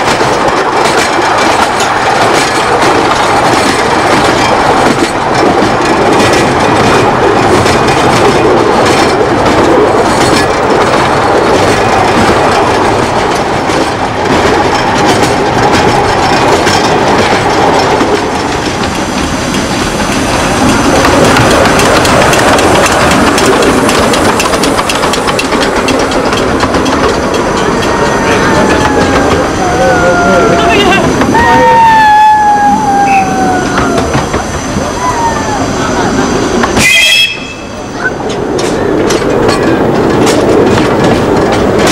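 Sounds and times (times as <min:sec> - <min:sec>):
miniature train wheels clattering: 0:00.0 - 0:32.4, 0:37.9 - 0:41.9.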